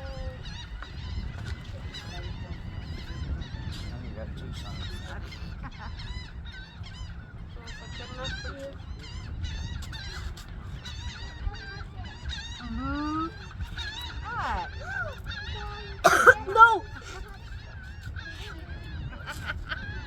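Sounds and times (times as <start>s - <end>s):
birds chirping: 0.0s - 19.1s.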